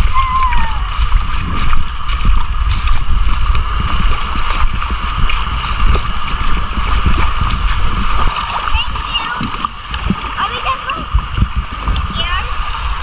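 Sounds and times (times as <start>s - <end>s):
small splashes and knocks: 0.0s - 12.2s
rushing water: 0.0s - 13.0s
wind buffeting microphone: 0.0s - 13.0s.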